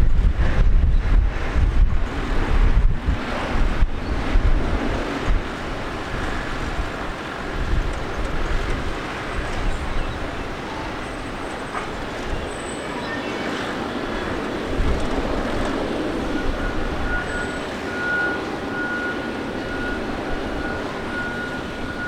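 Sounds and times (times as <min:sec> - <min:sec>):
wind on microphone: 0:00.0 - 0:12.7, 0:13.4 - 0:18.7
distant jet engines roaring: 0:00.0 - 0:22.0.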